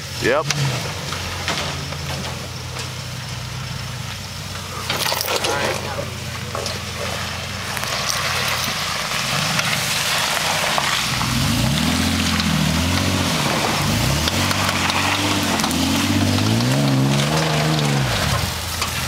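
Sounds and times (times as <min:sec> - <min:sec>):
tires spinning and spattering mud: 0:00.0 - 0:19.0
truck engine revving: 0:00.0 - 0:19.0.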